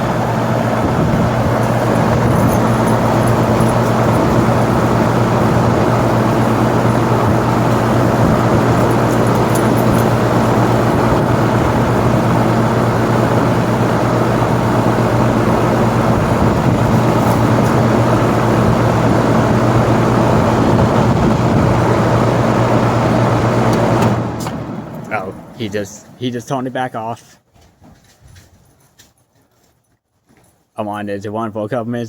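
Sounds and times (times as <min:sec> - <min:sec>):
compressor humming: 0:00.0 - 0:27.6
fan rushing: 0:00.0 - 0:28.9.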